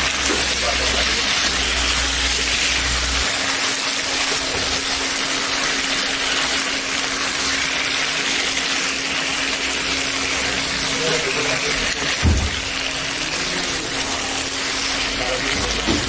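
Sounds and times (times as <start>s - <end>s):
meat sizzling in a wok: 0.0s - 16.0s.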